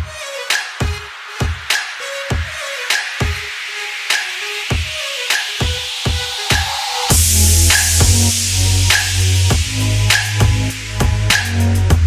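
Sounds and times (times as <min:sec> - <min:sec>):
electronic music with kick drums: 0:00.0 - 0:12.0.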